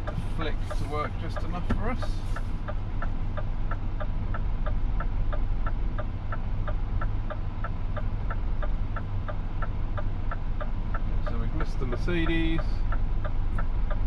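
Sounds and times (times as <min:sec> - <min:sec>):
diesel engine hum: 0:00.0 - 0:14.0
turn signal relay ticking: 0:00.0 - 0:14.0.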